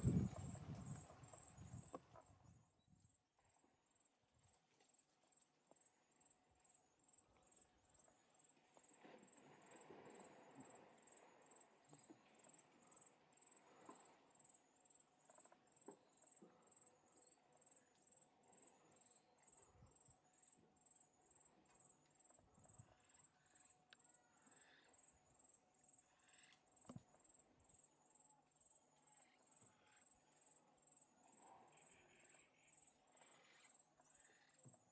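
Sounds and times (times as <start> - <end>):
insect chirping: 0.0 - 34.9.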